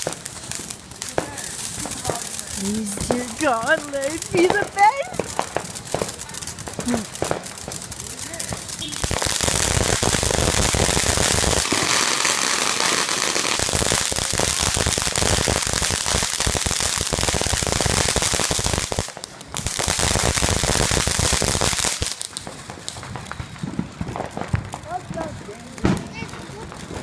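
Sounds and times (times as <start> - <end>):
firework crackling pops: 0.0 - 27.0.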